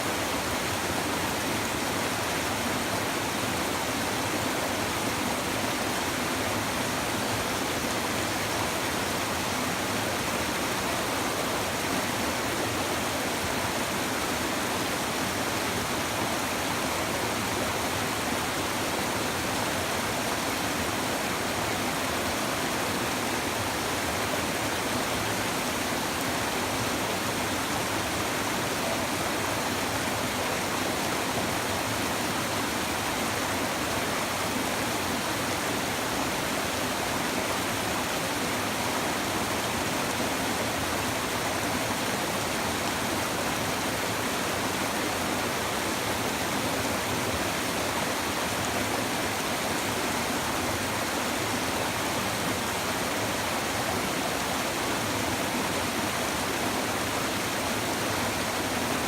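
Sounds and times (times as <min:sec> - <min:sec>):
river babbling over stones: 0:00.0 - 0:59.0.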